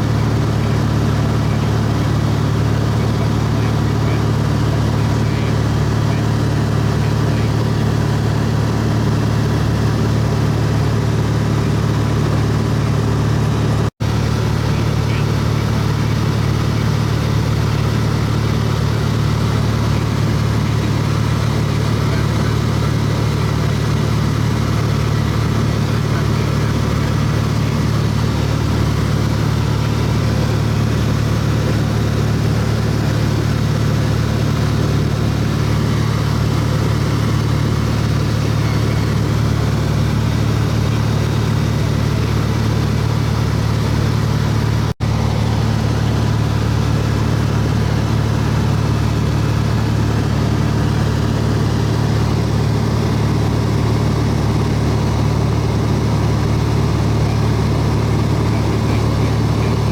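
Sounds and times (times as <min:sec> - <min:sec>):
airplane engine cabin hum: 0:00.0 - 0:59.9.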